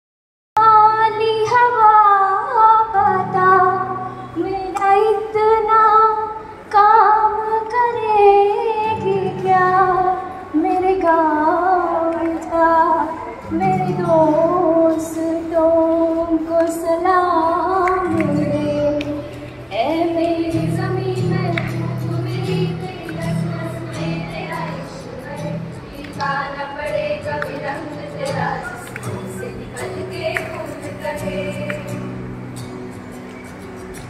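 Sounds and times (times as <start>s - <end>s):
girl singing into microphone: 0.6s - 32.2s
acoustic guitar chords: 2.7s - 34.0s.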